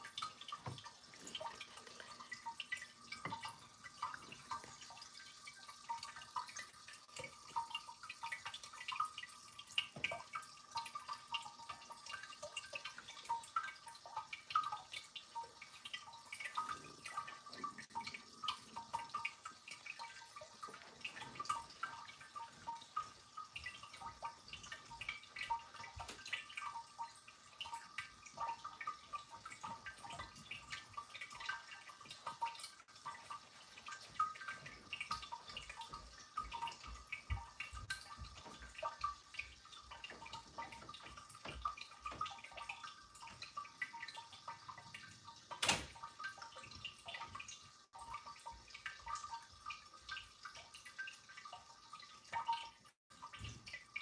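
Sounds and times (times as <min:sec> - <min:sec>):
fountain water trickling: 0:00.0 - 0:54.0.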